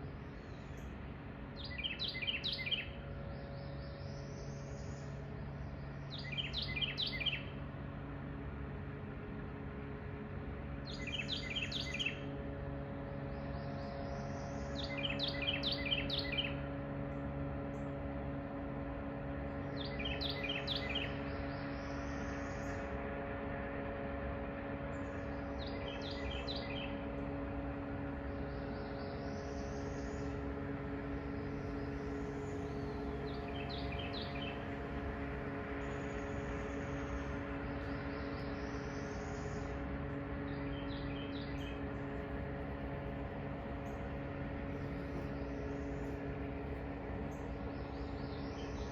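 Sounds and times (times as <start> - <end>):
songbird singing: 0.0 - 8.0, 10.5 - 48.9
low diesel engine drone: 0.0 - 48.9.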